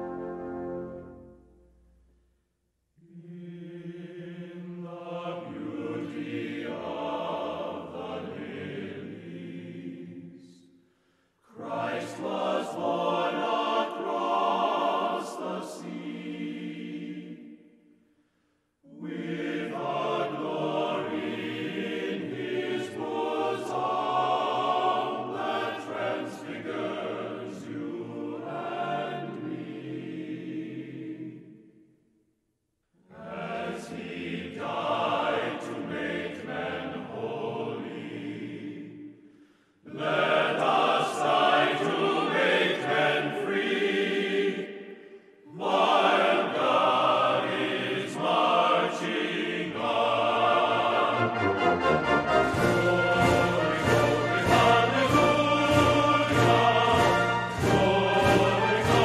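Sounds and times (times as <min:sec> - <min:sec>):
choir singing: 0:00.0 - 0:01.7, 0:03.0 - 0:10.8, 0:11.4 - 0:18.0, 0:18.8 - 0:31.9, 0:33.0 - 0:59.0.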